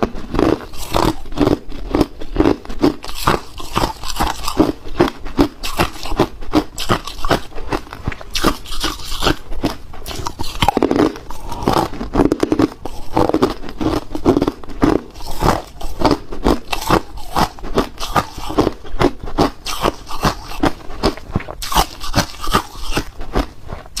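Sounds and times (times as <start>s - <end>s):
person chewing ice crunches: 0.0s - 24.0s.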